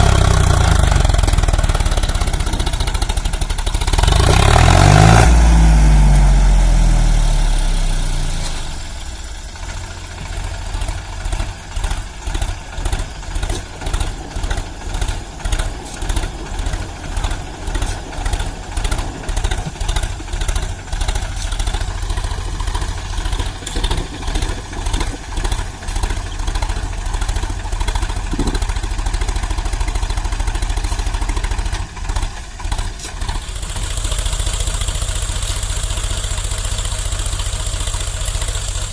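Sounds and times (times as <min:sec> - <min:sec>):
tractor diesel engine: 0:00.0 - 0:38.9.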